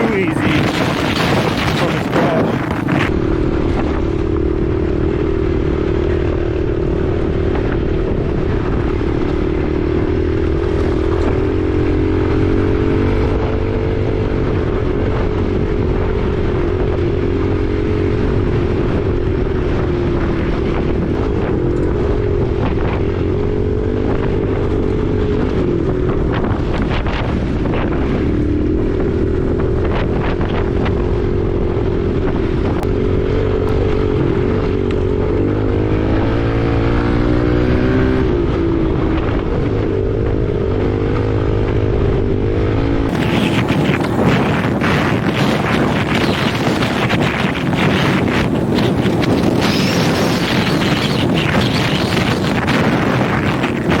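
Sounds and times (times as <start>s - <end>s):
dirt bike engine running: 0.0s - 54.0s
wind buffeting microphone: 0.0s - 54.0s.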